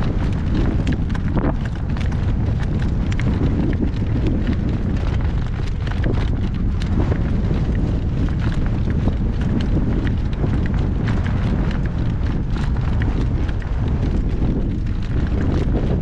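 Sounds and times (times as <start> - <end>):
horse hooves and harness clicking: 0.0 - 16.0
wind buffeting microphone: 0.0 - 16.0.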